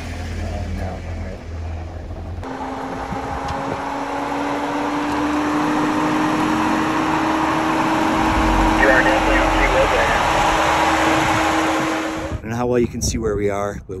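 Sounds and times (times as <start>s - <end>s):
car engine humming: 0.0s - 12.4s
low rumble of passing car: 0.0s - 12.4s.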